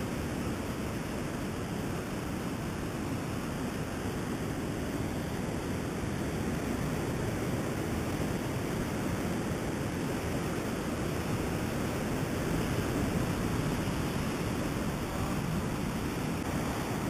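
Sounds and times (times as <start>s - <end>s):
ocean surf breaking on rocks: 0.0s - 17.0s.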